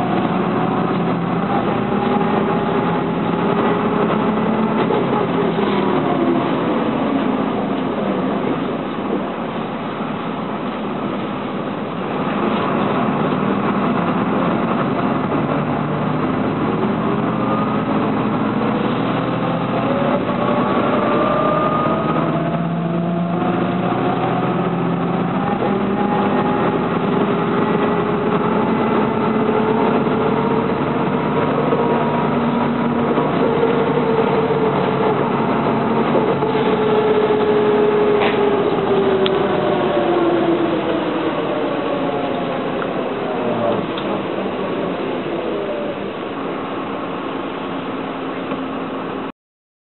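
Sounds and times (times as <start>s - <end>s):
bus diesel engine running: 0.0s - 49.3s
drivetrain whine: 0.0s - 49.3s.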